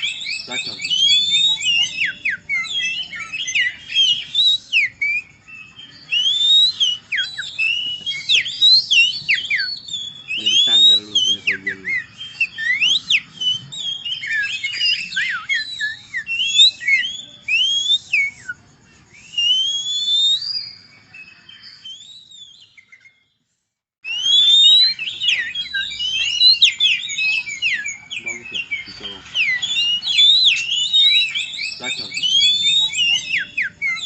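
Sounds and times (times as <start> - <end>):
man whistling birdsong: 0.0 - 23.4, 24.0 - 34.0.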